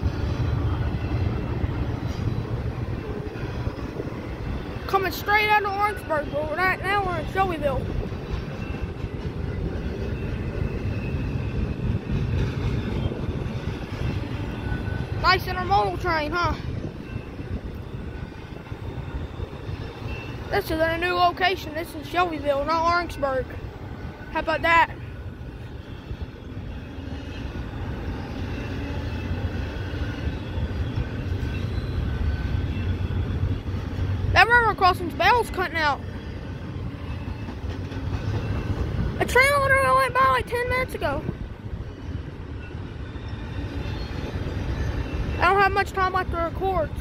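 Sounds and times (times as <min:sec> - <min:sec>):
freight train rumbling on rails: 0:00.0 - 0:47.0.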